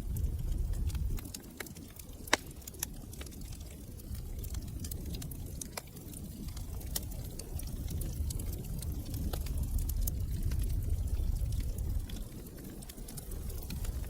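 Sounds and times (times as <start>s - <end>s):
low rumble of burning: 0.0s - 14.0s
wood fire crackling and popping: 0.0s - 14.0s.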